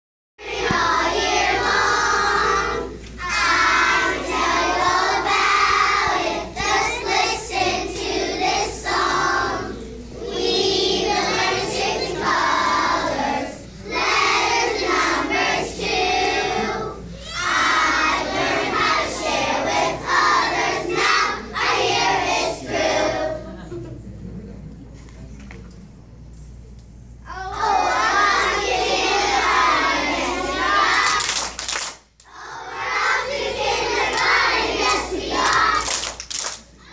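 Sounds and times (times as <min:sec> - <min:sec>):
young children singing: 0:00.4 - 0:23.7, 0:27.3 - 0:31.6, 0:32.2 - 0:36.9.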